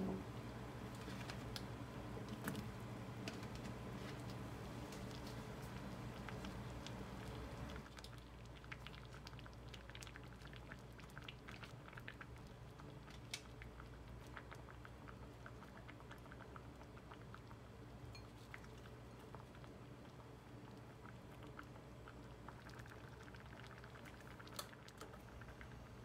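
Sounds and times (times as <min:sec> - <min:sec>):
low steady hum: 0:00.0 - 0:26.0
stew bubbling in a pot: 0:00.0 - 0:26.0.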